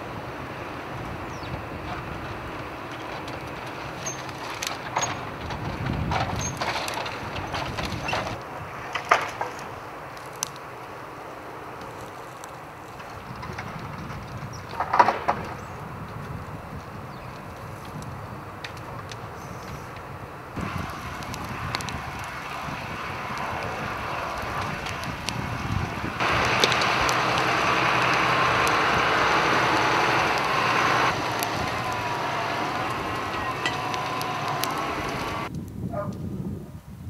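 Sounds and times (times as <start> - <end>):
wind on microphone: 0.0 - 4.0, 5.1 - 8.9, 12.9 - 37.0
tractor engine running: 0.0 - 35.5
burning brush crackling: 0.0 - 36.4.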